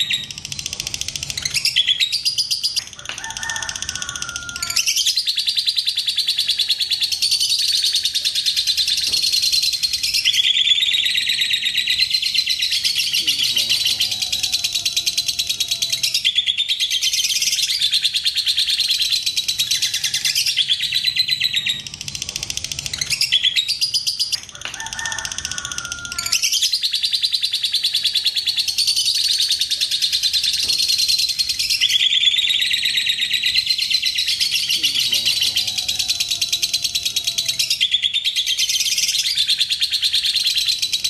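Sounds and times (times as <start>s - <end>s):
lovebird chattering trill: 0.0s - 41.0s.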